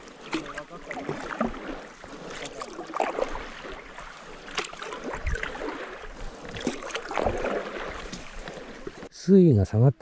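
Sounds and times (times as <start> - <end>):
water splashing and dripping: 0.0 - 9.1
paddle strokes through water: 0.0 - 9.2.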